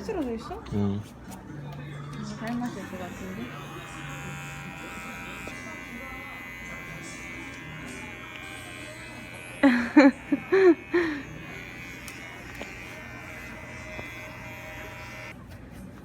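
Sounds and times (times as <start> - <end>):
electric hair clippers buzzing: 2.3 - 15.4.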